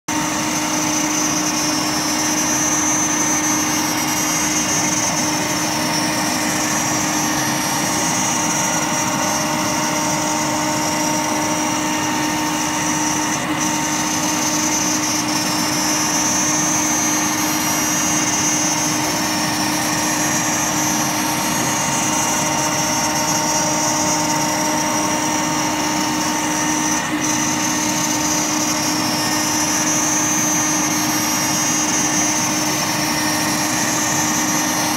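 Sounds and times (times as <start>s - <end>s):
router and vacuum hum with whine: 0.1s - 34.9s.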